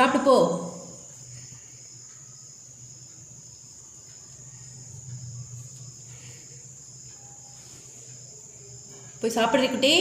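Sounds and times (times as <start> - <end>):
faint low hum: 0.0 - 10.0
high-pitched insect chirring: 0.0 - 10.0.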